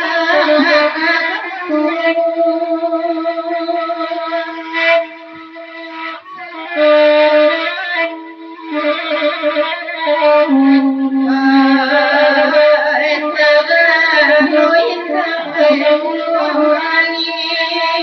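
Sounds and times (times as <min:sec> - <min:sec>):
woman singing: 0:00.0 - 0:05.2, 0:08.6 - 0:18.0
bamboo flute: 0:00.0 - 0:17.3.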